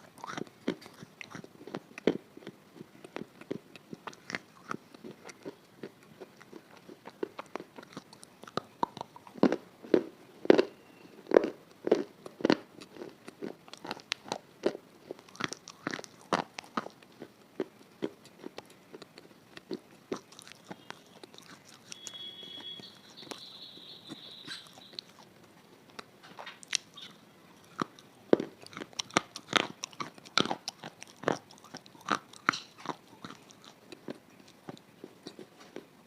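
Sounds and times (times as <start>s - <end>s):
crunchy food chewing: 0.0s - 36.0s.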